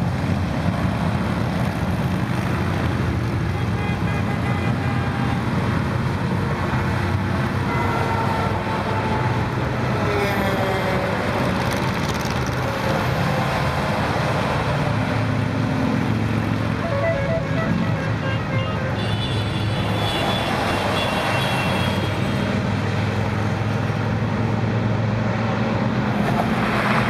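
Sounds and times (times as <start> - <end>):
highway traffic passing: 0.0 - 27.0.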